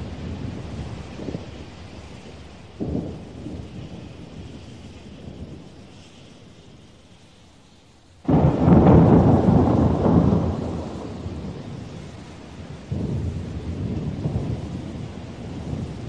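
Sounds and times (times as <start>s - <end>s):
thunder clap and rumble: 0.0s - 5.8s, 8.3s - 16.0s
rain hiss: 0.0s - 16.0s.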